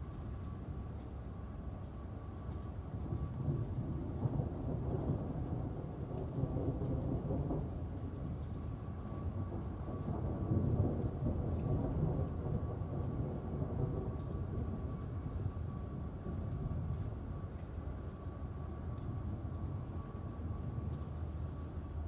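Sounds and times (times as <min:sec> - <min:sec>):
steady rain: 0:00.0 - 0:22.0
thunder rumbling: 0:03.0 - 0:22.0.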